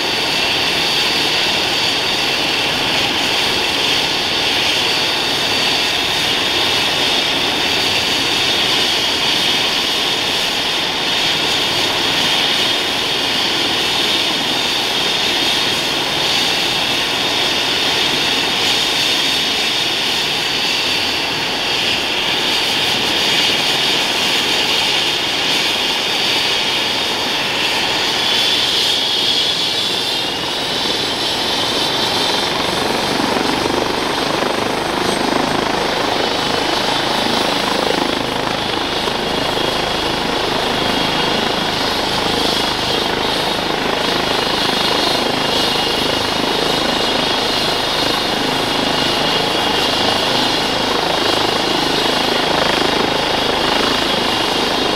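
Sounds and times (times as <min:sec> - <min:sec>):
helicopter rotor rush: 0:00.0 - 0:54.9
helicopter turbine whine: 0:00.0 - 0:54.9.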